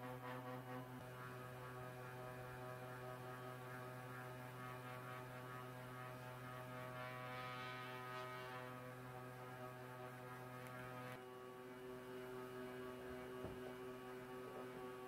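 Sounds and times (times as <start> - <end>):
steady low hum with tones: 0.0 - 15.0.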